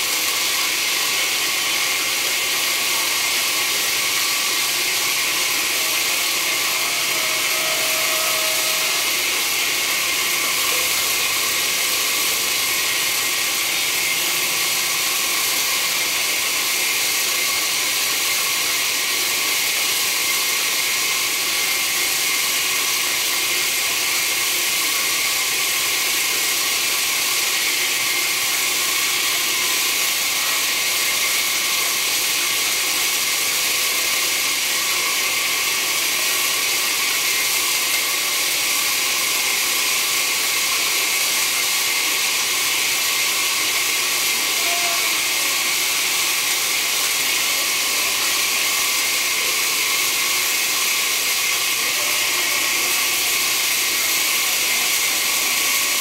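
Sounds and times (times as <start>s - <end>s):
saw blade hissing through wood: 0.0s - 56.0s
sawmill machine running: 0.0s - 56.0s.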